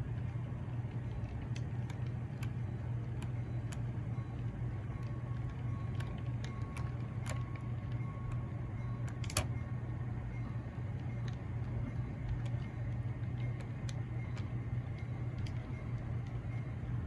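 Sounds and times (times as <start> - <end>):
model train humming and clicking: 0.0 - 17.0.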